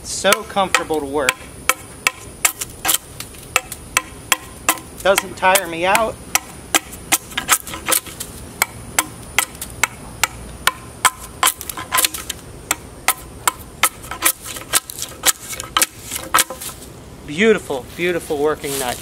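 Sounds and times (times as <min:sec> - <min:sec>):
knife chopping into wood: 0:00.3 - 0:16.8.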